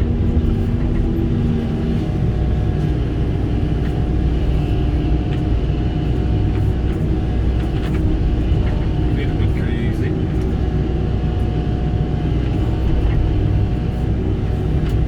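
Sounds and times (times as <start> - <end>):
excavator diesel engine humming: 0.0 - 15.0.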